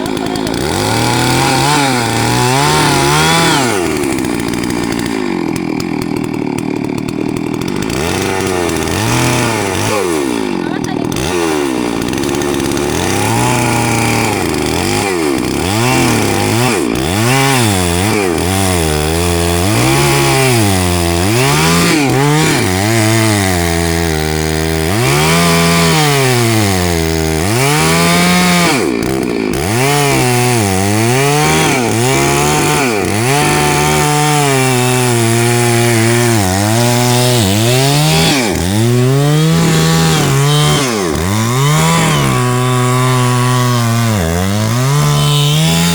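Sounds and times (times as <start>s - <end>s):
chainsaw cutting into tree: 0.0s - 45.9s.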